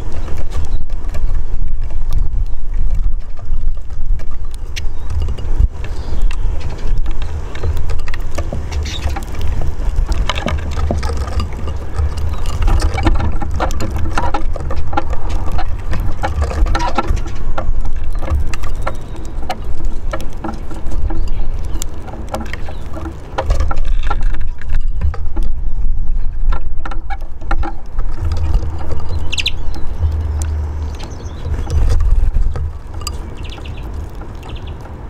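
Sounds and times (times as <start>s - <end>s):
finches pecking and cracking seed: 0.0s - 25.6s, 26.2s - 35.0s
steady low rumble: 0.0s - 35.0s.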